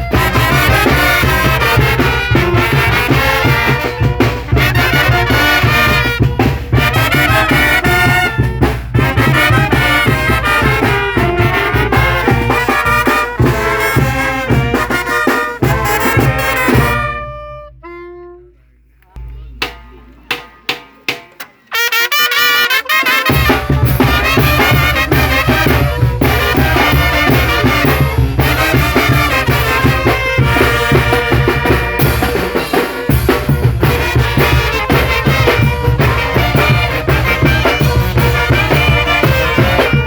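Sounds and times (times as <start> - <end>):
brass band playing: 0.0 - 18.7, 21.7 - 40.0.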